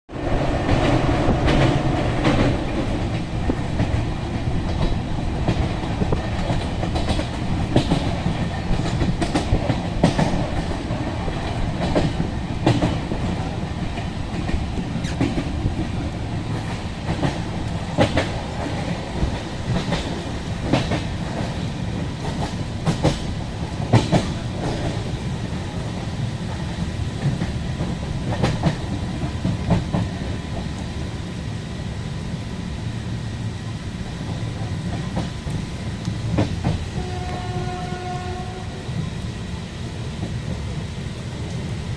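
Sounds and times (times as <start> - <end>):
train rumbling along track: 0.1 - 41.9
wheels clicking over rail joints: 0.6 - 30.8, 34.3 - 38.2.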